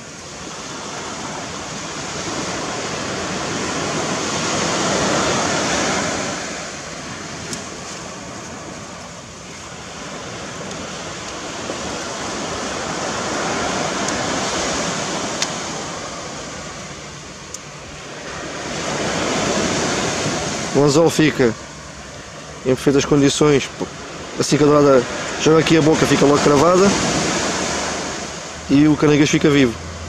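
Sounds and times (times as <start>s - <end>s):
surf washing onto beach: 0.0s - 30.0s.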